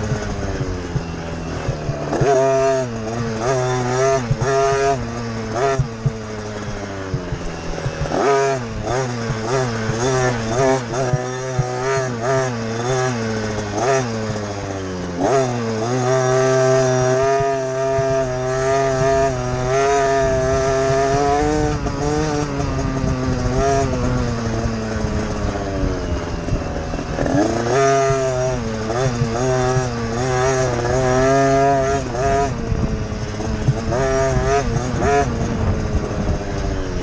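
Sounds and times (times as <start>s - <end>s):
motocross bike engine revving: 0.0s - 37.0s.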